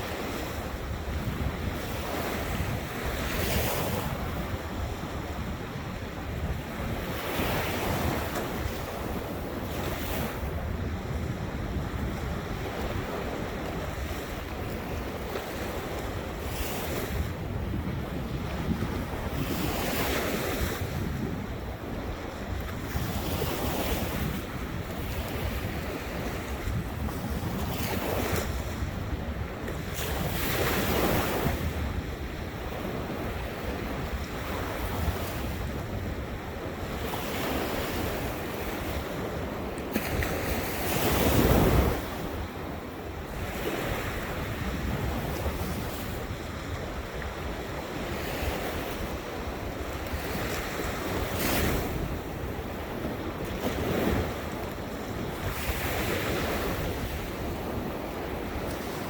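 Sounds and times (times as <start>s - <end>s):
ocean waves breaking on shore: 0.0s - 59.0s
wind buffeting microphone: 0.0s - 59.0s.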